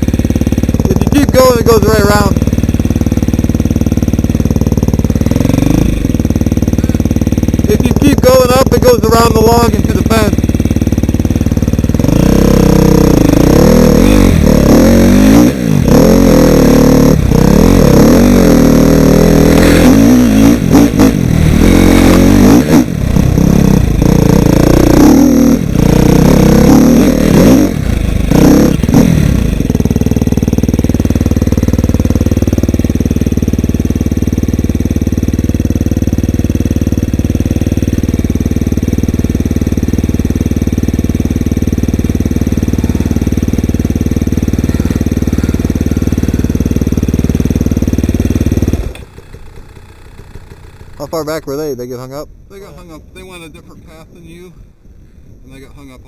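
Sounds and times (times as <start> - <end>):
dirt bike engine revving: 0.0 - 51.8.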